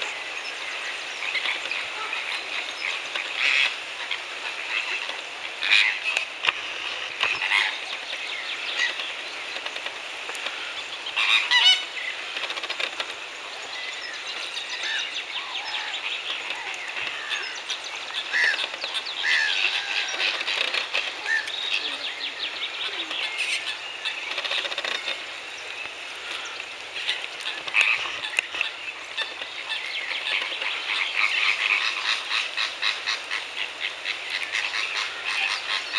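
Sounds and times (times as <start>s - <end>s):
flamingos honking and chattering: 0.0s - 35.9s.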